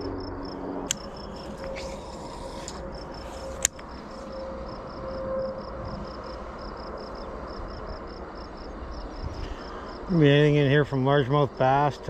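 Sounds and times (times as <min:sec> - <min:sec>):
insect chirping: 0:00.0 - 0:11.6
faint outdoor background noise: 0:00.0 - 0:12.0.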